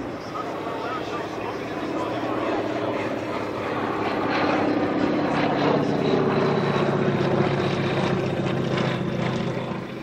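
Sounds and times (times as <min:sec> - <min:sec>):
propeller plane engine: 0:00.0 - 0:10.0.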